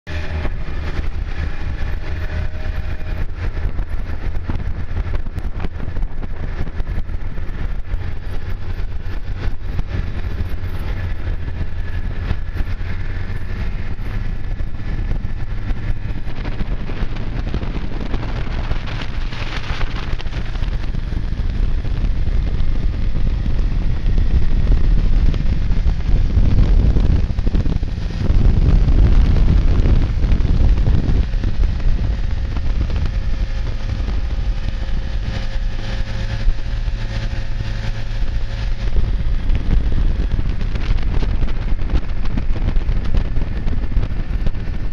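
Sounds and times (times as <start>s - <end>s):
snowmobile engine running: 0.0s - 44.9s
wind buffeting microphone: 0.1s - 44.9s.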